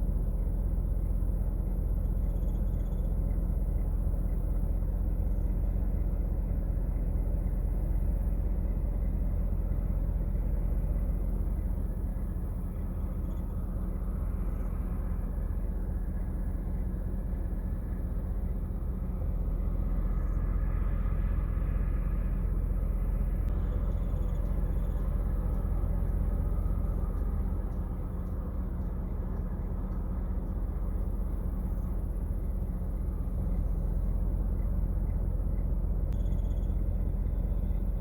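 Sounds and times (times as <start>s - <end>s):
low vehicle rumble: 0.0s - 38.0s.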